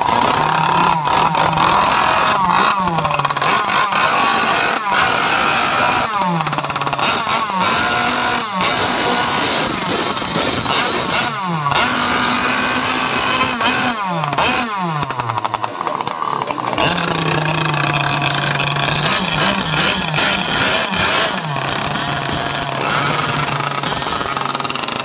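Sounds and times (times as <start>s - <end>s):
small two-stroke engines revving: 0.0s - 25.0s.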